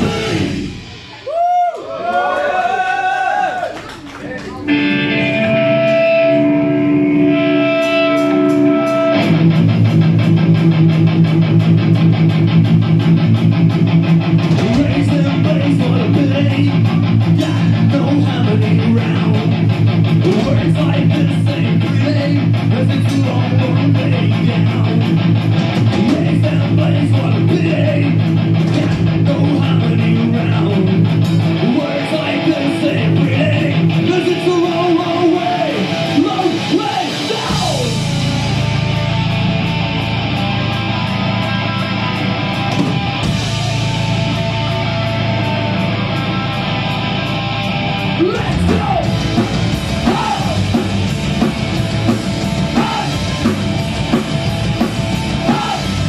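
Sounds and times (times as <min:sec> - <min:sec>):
distorted electric guitar: 0:00.0 - 0:01.3, 0:04.4 - 0:56.0
rock band playing heavy riff: 0:00.0 - 0:02.9, 0:03.8 - 0:56.0.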